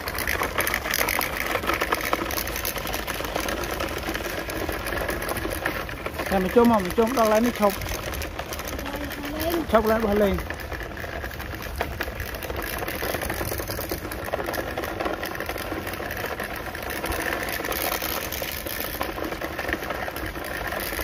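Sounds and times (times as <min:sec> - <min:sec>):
toy car electric motor whirring: 0:00.0 - 0:21.0.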